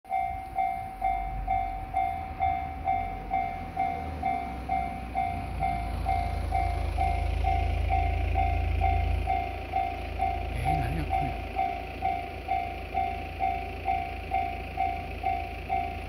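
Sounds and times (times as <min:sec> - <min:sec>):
level-crossing alarm bell ringing: 0:00.1 - 0:16.0.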